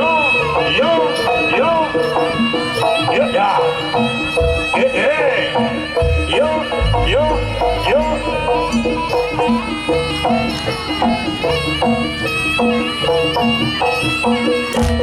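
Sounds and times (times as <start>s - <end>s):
drums and gongs: 0.0s - 15.0s
reedy shawm melody: 0.0s - 15.0s.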